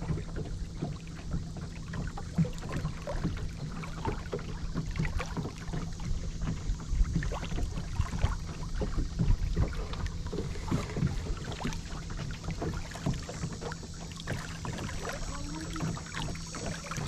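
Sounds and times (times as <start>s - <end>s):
boat engine rumble: 0.0s - 17.0s
small knocks on hull: 0.0s - 17.0s.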